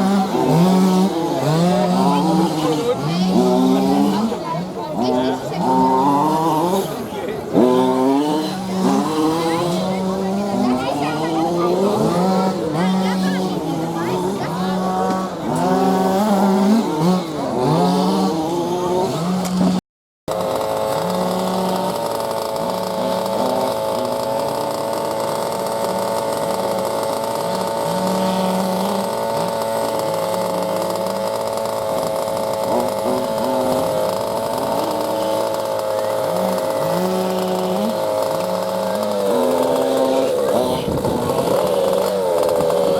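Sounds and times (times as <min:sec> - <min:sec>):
small model engine revving: 0:00.0 - 0:42.9.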